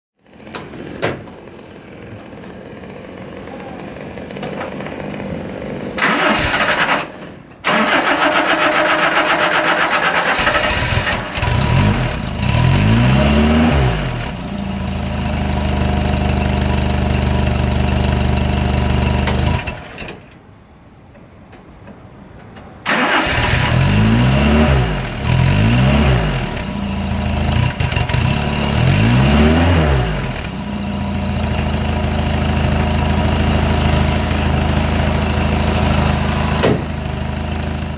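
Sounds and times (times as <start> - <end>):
car engine idling: 0.2 - 20.0, 26.2 - 37.9
car engine starting and revving: 4.1 - 20.1, 22.8 - 37.9.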